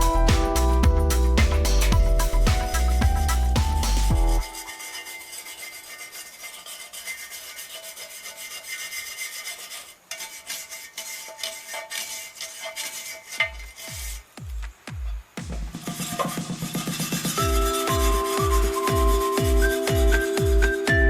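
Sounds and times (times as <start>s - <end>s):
abrasive rubbing on metal: 0.0s - 14.3s, 15.7s - 20.4s.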